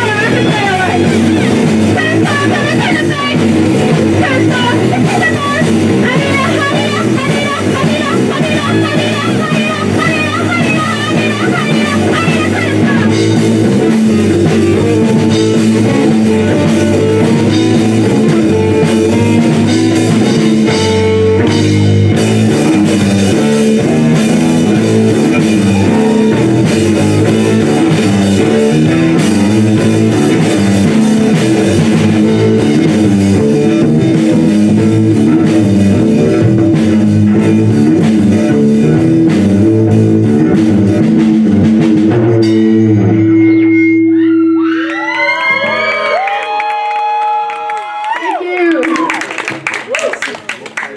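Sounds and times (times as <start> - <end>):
rock band playing: 0.0 - 47.6.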